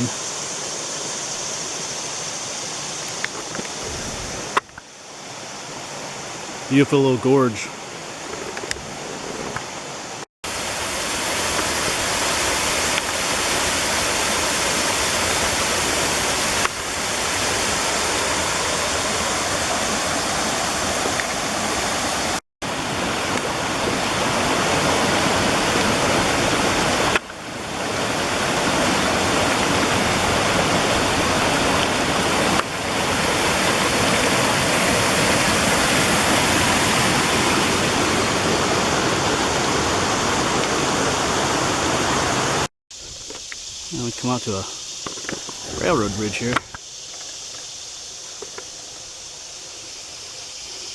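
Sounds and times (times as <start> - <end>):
water rushing down rocky creek: 0.0 - 50.9.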